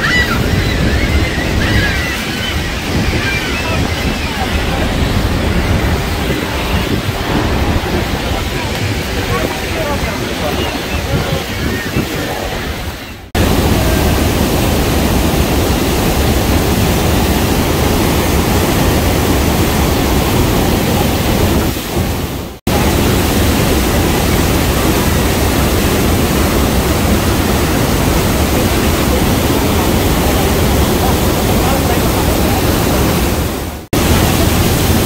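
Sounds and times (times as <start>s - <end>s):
waterfall crashing onto rocks: 0.0s - 35.0s.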